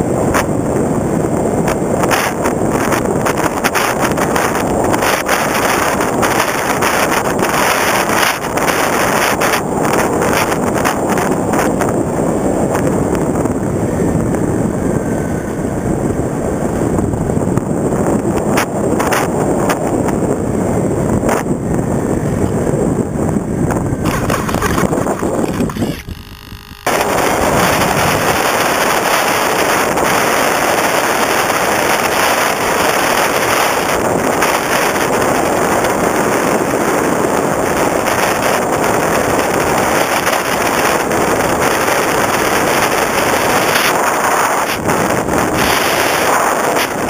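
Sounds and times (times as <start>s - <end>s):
rush of air over microphone: 0.0s - 47.0s.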